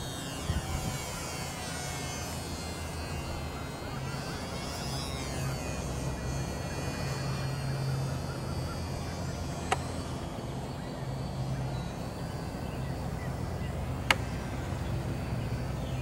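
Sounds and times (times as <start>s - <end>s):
small electric motor and propeller whine: 0.0s - 16.0s.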